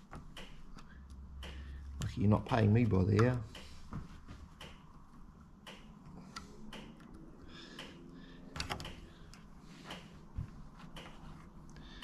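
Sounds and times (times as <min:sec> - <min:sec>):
light clicks and taps of hands: 0:00.0 - 0:11.7.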